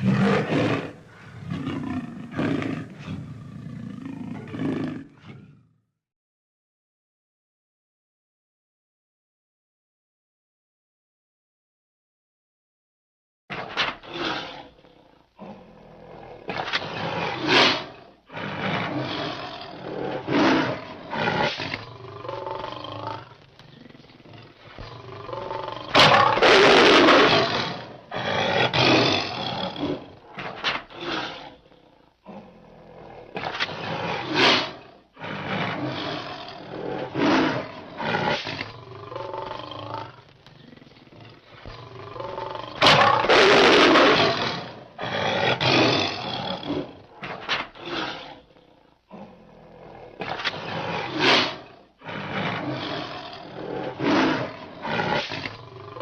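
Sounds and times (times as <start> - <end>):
big cat roaring: 0.0 - 5.8, 14.0 - 56.0.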